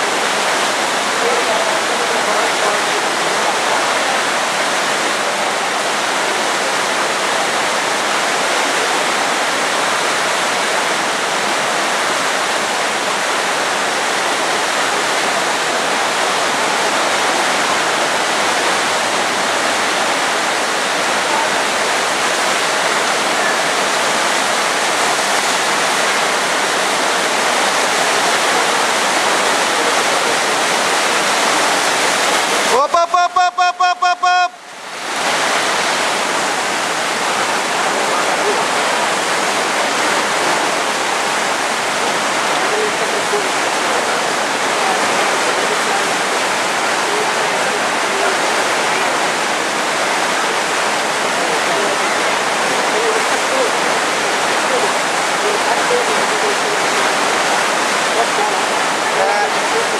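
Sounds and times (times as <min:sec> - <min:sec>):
whitewater rapids rushing: 0:00.0 - 0:59.9.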